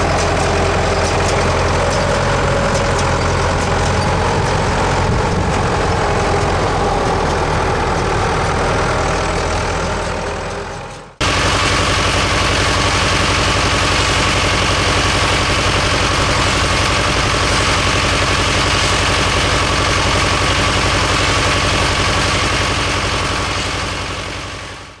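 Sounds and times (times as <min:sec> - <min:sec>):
diesel tractor engine running: 0:00.0 - 0:25.0.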